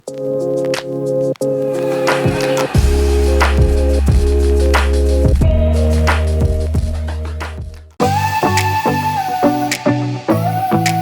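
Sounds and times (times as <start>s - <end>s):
background music with deep bass: 0.2s - 11.0s.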